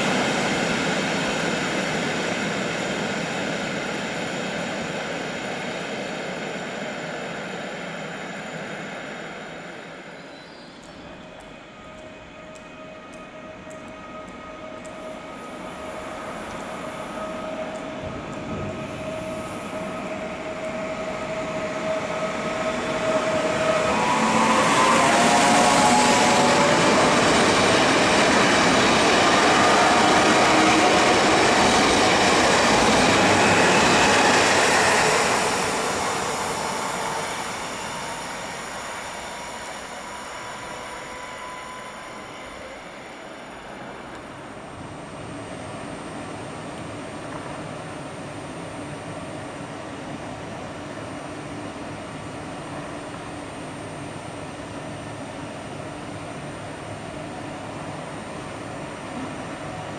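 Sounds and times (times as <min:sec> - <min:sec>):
electric train whine: 0:00.0 - 0:59.9
train wheels on rails: 0:00.0 - 0:59.9.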